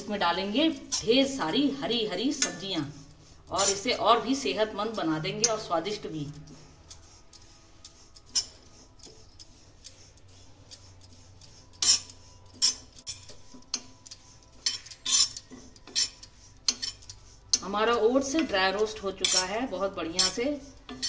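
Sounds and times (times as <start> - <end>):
spatula clinking and scraping pan: 0.0 - 21.0.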